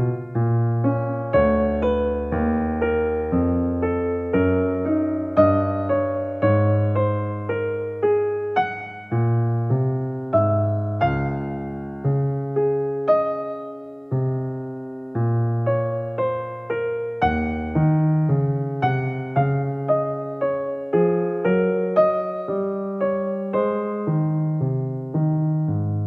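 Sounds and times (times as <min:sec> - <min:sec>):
slow solo piano music: 0:00.0 - 0:26.0.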